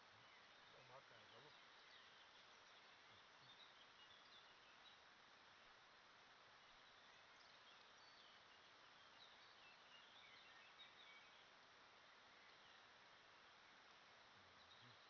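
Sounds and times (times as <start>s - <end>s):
faint steady hiss: 0.0s - 15.0s
small birds chirping: 0.0s - 15.0s.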